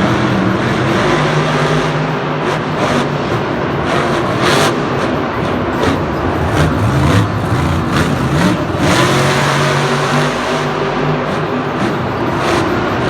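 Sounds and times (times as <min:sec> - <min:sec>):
engine revving: 0:00.0 - 0:13.0
steady rushing noise: 0:00.0 - 0:13.0.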